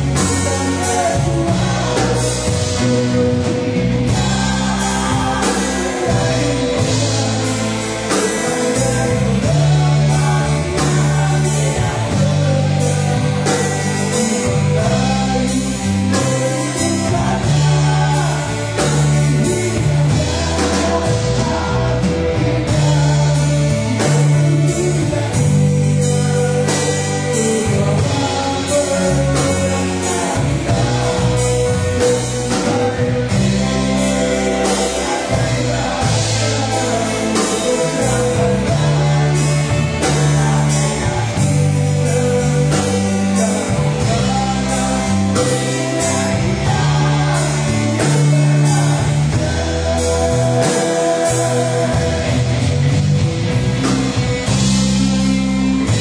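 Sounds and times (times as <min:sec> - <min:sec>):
drum kit beat: 0:00.0 - 0:56.0
electric bass: 0:00.0 - 0:56.0
electric guitar: 0:00.0 - 0:56.0
man singing: 0:00.0 - 0:56.0.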